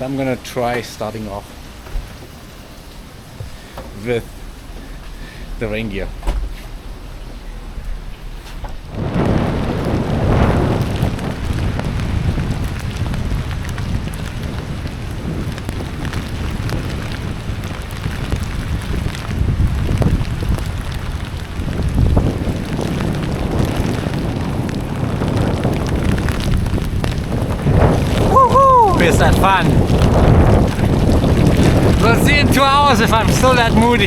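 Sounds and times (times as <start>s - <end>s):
rain and wind on microphone: 0.0s - 34.0s.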